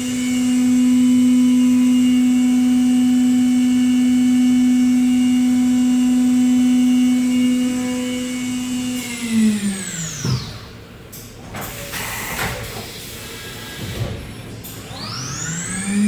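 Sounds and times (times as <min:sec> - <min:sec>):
machine spindle whine: 0:00.0 - 0:16.0.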